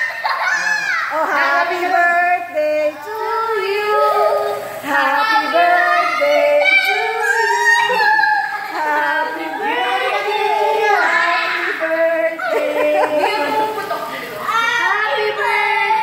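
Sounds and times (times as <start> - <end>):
women and children singing: 0.0 - 16.0.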